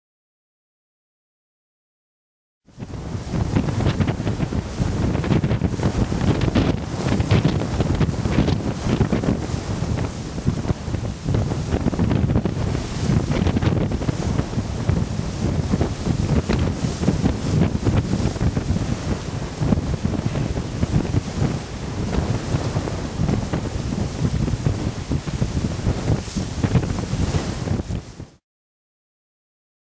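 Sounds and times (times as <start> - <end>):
wind buffeting microphone: 2.7 - 28.4.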